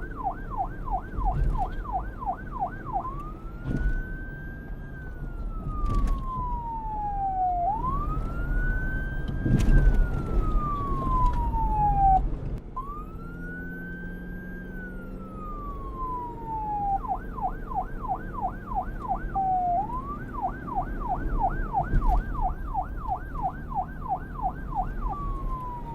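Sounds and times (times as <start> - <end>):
low vehicle rumble: 0.0 - 25.9
police siren wailing and yelping: 0.0 - 25.9.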